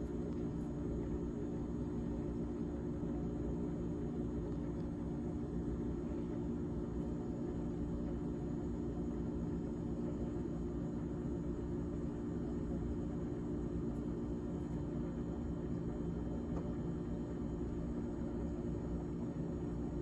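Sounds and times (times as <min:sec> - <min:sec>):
refrigerator humming: 0:00.0 - 0:20.0.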